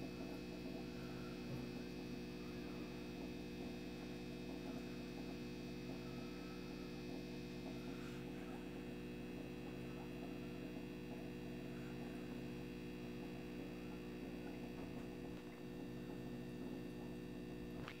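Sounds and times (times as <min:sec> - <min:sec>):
steady hum of held tones: 0:00.0 - 0:18.0.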